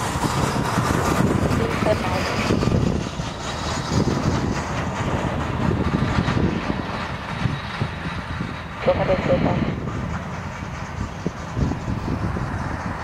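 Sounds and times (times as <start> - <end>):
jet airliner engine rumbling: 0.0 - 13.0.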